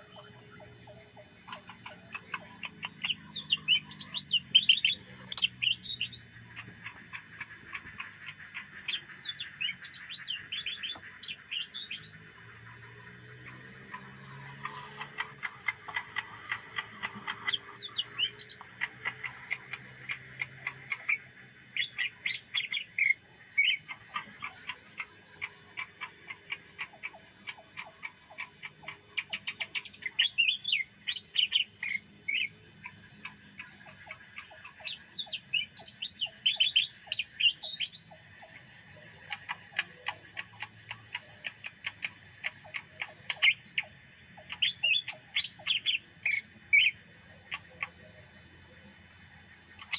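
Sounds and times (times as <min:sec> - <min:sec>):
songbird chirping and trilling: 0:00.0 - 0:49.9.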